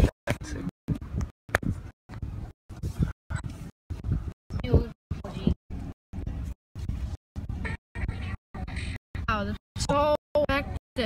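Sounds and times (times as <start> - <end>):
fragments of low rumbling noise: 0.0 - 11.0.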